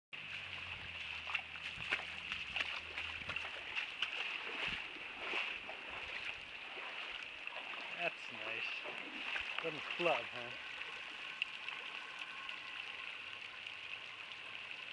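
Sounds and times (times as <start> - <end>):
feet splashing through water: 0.2 - 14.6.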